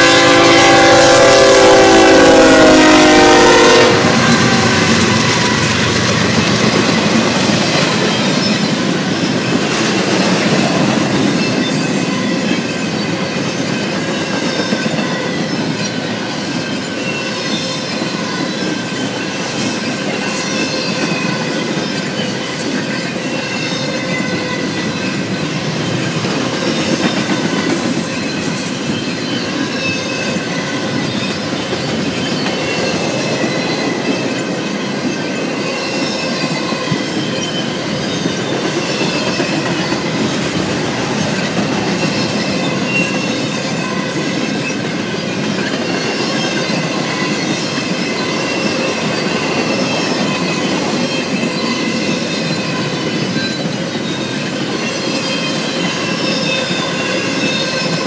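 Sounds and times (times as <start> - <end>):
steel wheels squealing on rail: 0.0 - 58.0
train rumble: 0.0 - 58.0.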